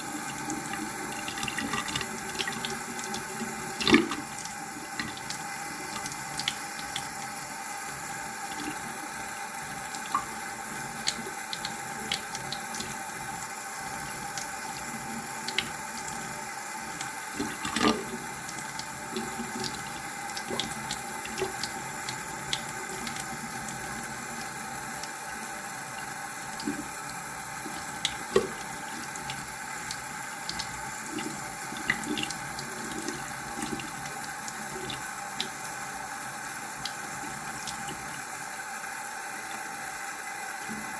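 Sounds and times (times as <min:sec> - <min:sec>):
water running from a tap: 0:00.0 - 0:40.9.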